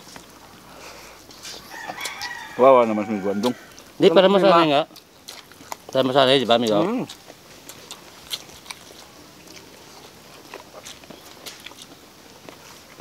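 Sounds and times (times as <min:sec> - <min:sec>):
people chewing and smacking: 0:00.0 - 0:13.0.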